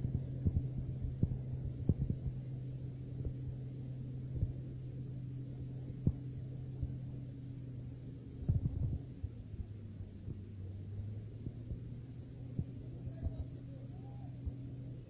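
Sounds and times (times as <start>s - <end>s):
crane engine humming: 0.0s - 15.0s.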